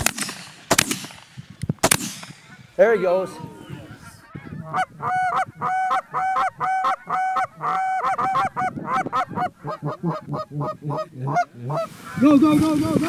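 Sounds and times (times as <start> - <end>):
goose honking: 2.5 - 13.0.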